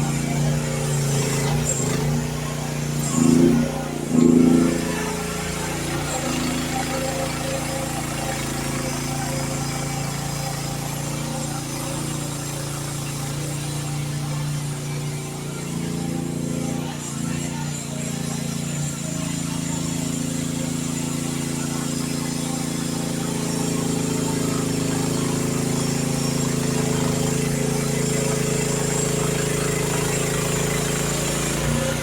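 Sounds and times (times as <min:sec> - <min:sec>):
excavator engine running: 0:00.0 - 0:32.0.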